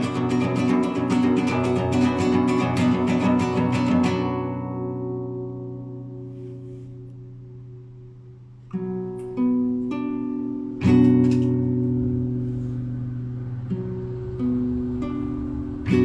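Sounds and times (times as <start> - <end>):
classical guitar playing: 0.0 - 16.0.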